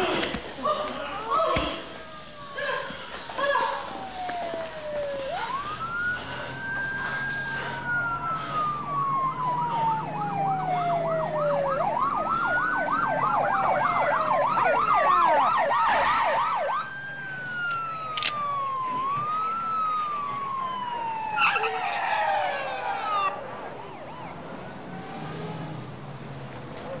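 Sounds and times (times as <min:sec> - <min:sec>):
police siren wailing: 0:00.0 - 0:27.0
police siren yelping: 0:00.6 - 0:25.8.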